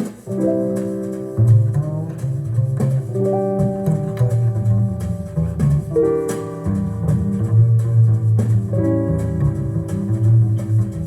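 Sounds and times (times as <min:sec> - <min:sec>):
plucked guitar music with bass: 0:00.0 - 0:11.0.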